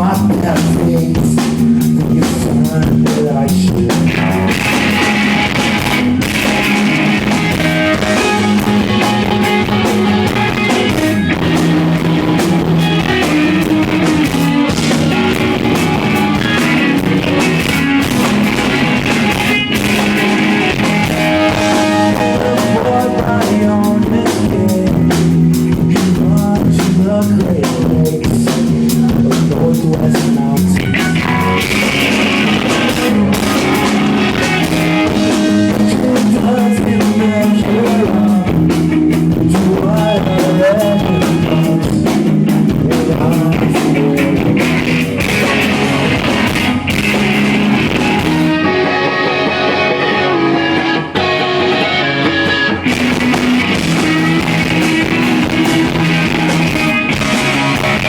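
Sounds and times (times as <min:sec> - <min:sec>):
electric guitars: 0:00.0 - 0:58.0
rock band playing: 0:00.0 - 0:58.0.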